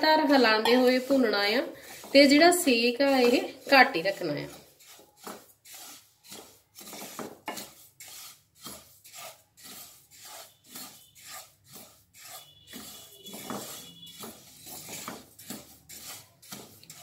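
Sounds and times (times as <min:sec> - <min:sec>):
spatula scraping seeds in pan: 0:00.0 - 0:17.0.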